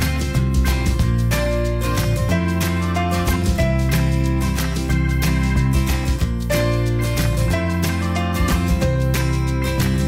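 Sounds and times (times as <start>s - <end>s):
upbeat guitar music with beat: 0.0s - 10.0s.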